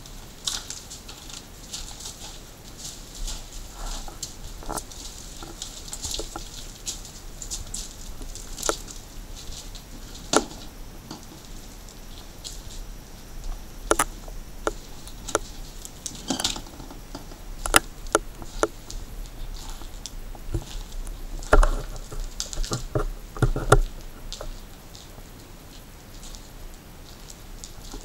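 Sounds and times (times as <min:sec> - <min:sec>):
low hiss: 0:00.0 - 0:28.0
footsteps crunching on grit: 0:00.6 - 0:28.0.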